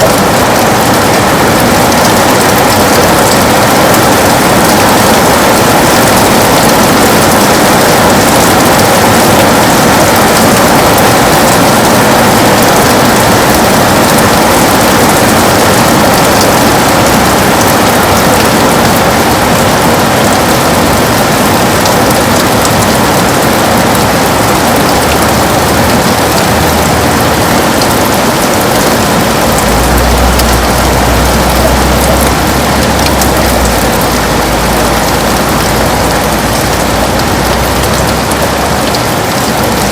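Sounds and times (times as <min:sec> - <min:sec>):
heavy rain on window: 0:00.0 - 0:39.9.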